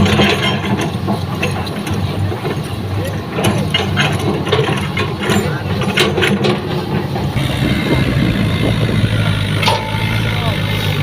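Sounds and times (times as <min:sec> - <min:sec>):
heavy diesel engine running: 0:00.0 - 0:11.0
sharp metal knocks and clanks: 0:00.0 - 0:11.0.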